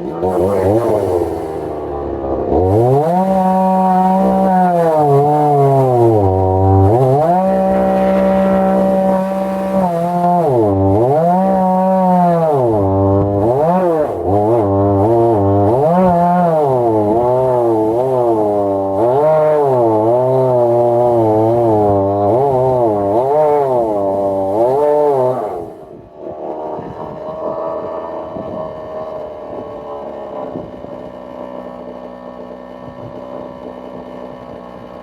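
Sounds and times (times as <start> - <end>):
chainsaw milling a log: 0.0 - 35.0.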